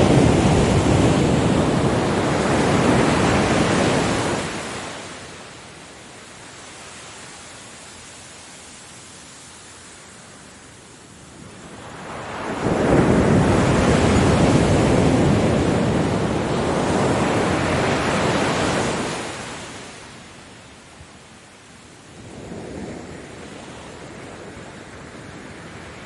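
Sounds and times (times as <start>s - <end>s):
ocean waves on a beach: 0.0s - 26.0s.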